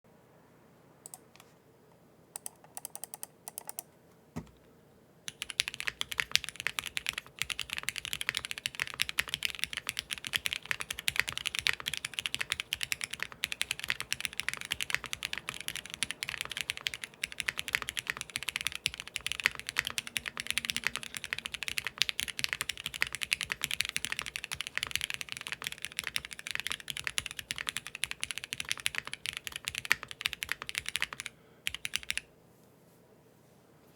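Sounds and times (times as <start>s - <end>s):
mechanical keyboard typing: 2.4s - 3.9s, 5.3s - 32.3s.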